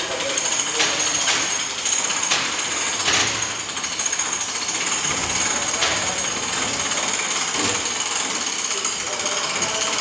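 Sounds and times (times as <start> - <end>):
machine rattling with high whine: 0.0 - 10.0.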